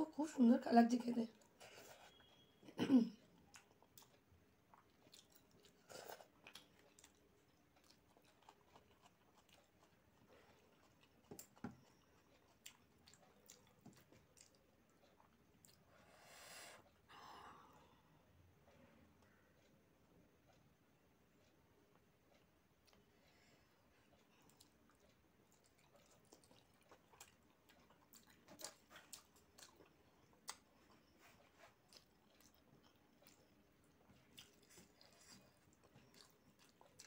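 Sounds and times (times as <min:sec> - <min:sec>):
person chewing: 0:01.3 - 0:02.6, 0:03.2 - 0:37.0.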